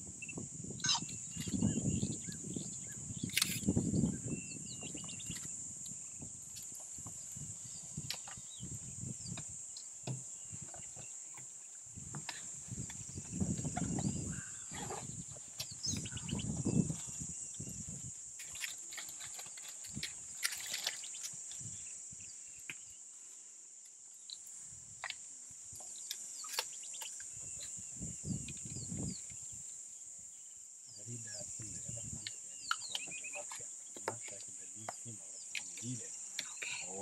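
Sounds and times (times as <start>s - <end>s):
high insect buzz: 0.0s - 37.0s.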